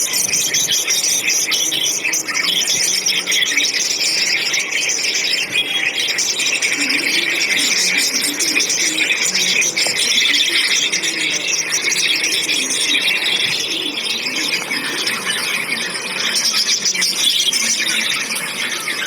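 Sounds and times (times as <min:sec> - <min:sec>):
many small birds chirping: 0:00.0 - 0:19.0.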